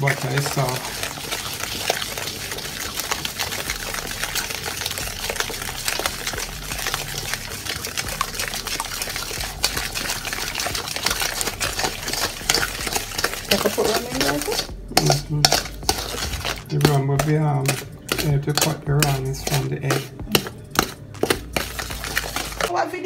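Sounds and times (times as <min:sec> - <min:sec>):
wet squelching and scraping: 0:00.0 - 0:22.7.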